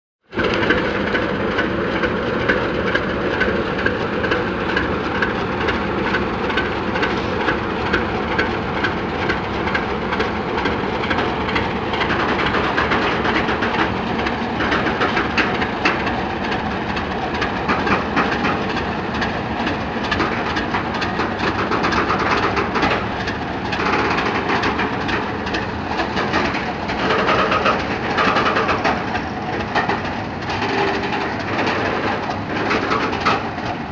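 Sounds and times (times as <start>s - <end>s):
diesel locomotive engines running hard: 0.2s - 33.9s
train wheels clicking over track: 0.3s - 33.9s.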